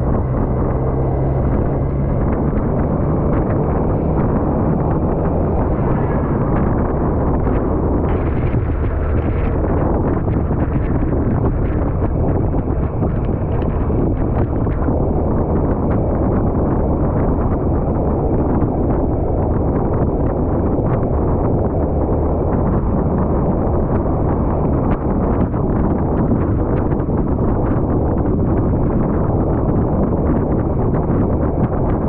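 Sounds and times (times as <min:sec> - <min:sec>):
motorcycle road noise: 0:00.0 - 0:32.0
wind buffeting microphone: 0:00.0 - 0:32.0.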